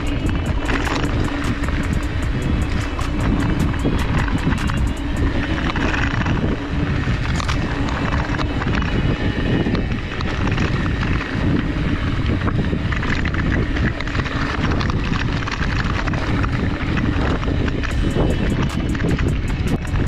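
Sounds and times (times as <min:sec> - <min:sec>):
bike rattling and clattering: 0:00.0 - 0:20.0
bike tyre noise: 0:00.0 - 0:20.0
wind rushing over microphone: 0:00.0 - 0:20.0.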